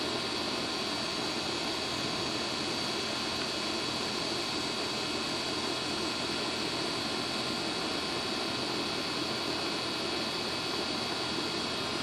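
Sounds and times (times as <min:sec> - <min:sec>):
air conditioning unit running: 0:00.0 - 0:12.0.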